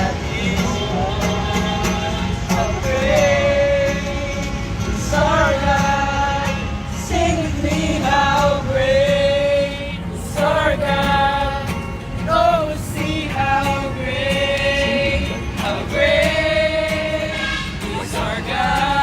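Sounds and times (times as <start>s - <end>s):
choir singing worship song: 0.0s - 19.0s.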